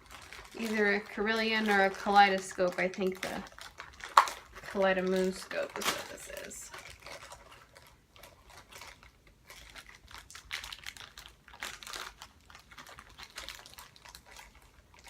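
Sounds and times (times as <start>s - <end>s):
packaging rustling: 0.0s - 15.0s.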